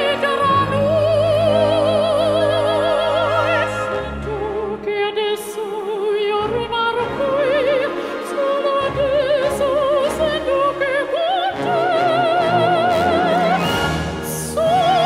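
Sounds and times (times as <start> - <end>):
operatic soprano singing: 0.0 - 15.0
orchestral accompaniment: 0.0 - 15.0.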